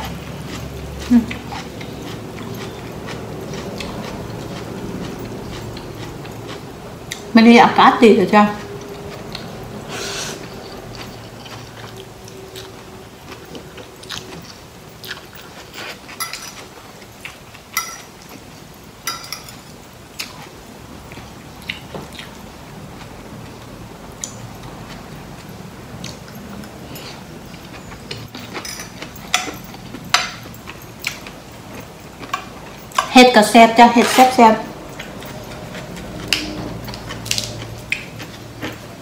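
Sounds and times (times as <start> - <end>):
person chewing and slurping noodles: 0.0 - 7.3, 8.6 - 18.8, 20.1 - 33.0, 34.9 - 39.0.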